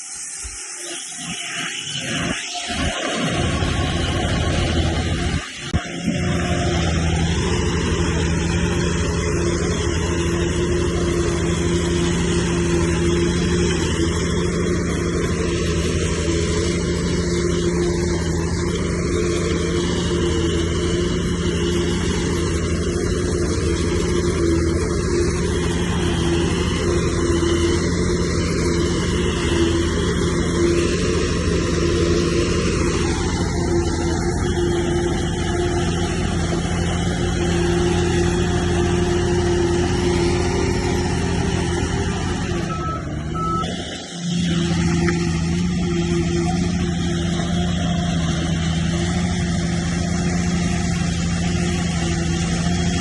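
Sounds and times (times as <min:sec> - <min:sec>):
heavy diesel engine humming: 0:02.7 - 0:53.0.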